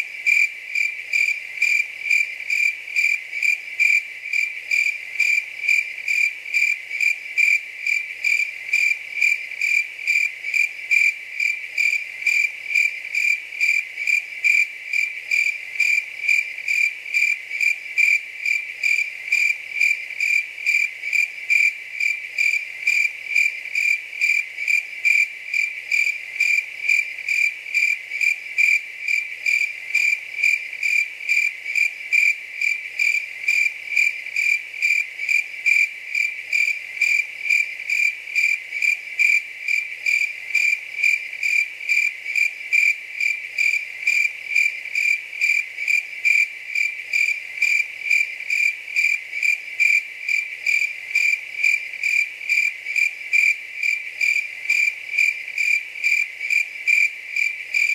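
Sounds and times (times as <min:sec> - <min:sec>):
cricket chirping: 0:00.0 - 0:57.9.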